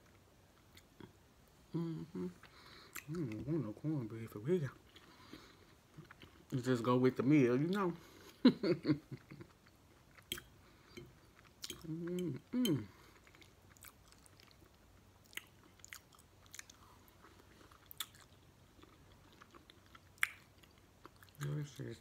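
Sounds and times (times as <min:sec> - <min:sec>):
person chewing food: 0:00.0 - 0:03.6, 0:04.8 - 0:06.6, 0:07.6 - 0:21.9.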